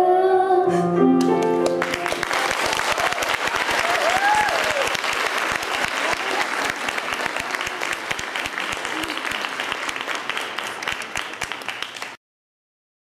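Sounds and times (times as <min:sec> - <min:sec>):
audience applauding: 0:01.2 - 0:12.2.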